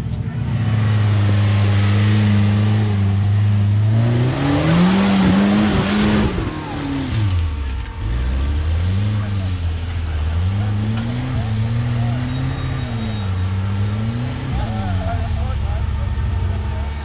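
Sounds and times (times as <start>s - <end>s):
off-road vehicle engine revving: 0.0s - 17.0s
tires spinning on rock: 0.4s - 17.0s.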